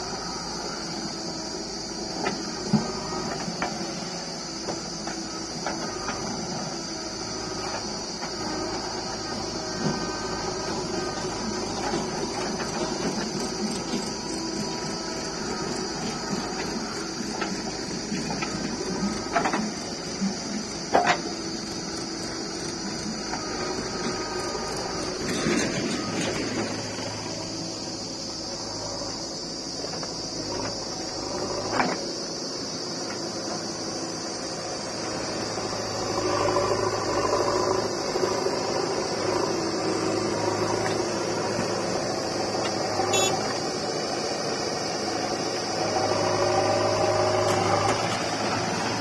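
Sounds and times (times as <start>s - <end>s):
diesel engine and hydraulics: 0.0s - 49.0s.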